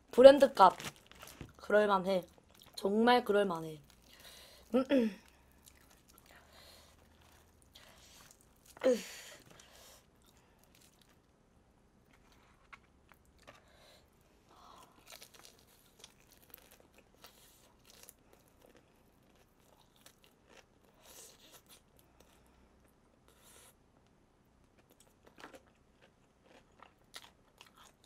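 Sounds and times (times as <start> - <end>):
crunching and chewing fried chicken: 0.7 - 2.8, 3.8 - 11.3, 12.0 - 23.7, 24.6 - 28.0.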